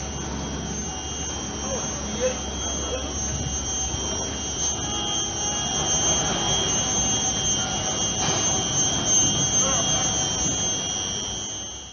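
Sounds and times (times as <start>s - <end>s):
high-pitched electric whine: 0.0s - 11.9s.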